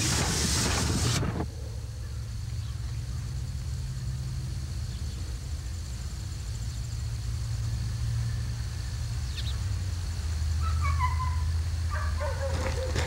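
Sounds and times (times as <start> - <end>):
steam locomotive rumbling: 0.0 - 13.0.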